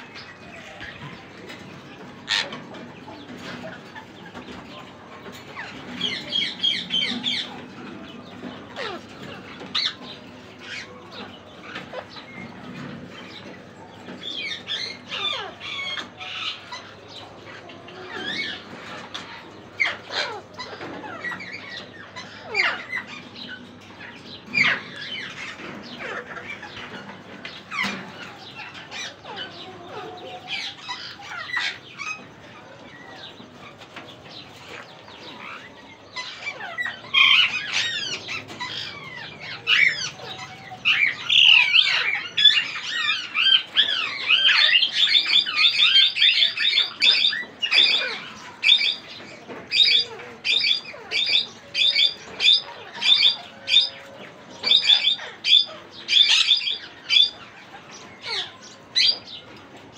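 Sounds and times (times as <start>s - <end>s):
parrots screeching: 2.2s - 4.8s, 5.5s - 13.6s, 14.2s - 59.8s.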